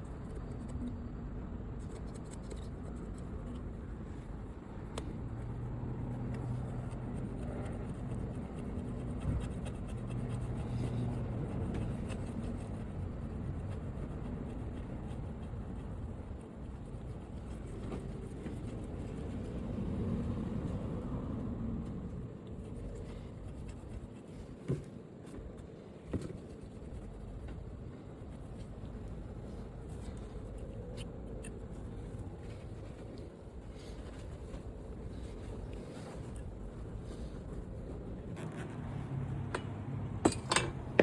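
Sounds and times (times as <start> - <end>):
brush scrubbing bodywork: 2.0 - 39.0.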